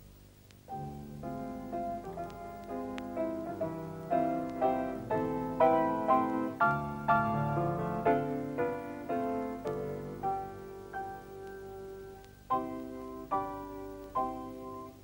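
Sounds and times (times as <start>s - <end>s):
slow piano music: 0.6s - 15.0s.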